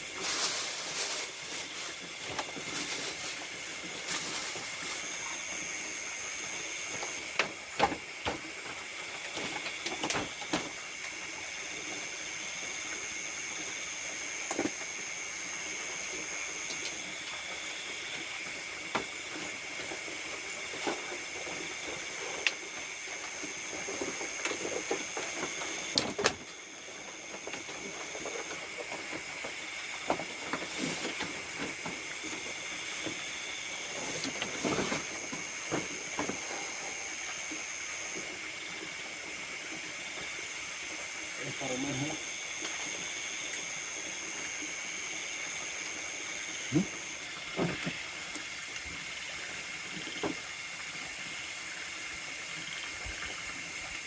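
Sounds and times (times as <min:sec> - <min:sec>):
high insect trill: 0:00.0 - 0:54.0
insects calling at night: 0:00.0 - 0:54.0.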